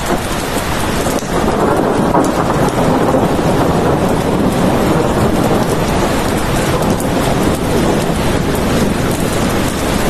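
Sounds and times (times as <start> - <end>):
heavy rain: 0.0 - 10.0
raindrop ticks: 0.0 - 10.0.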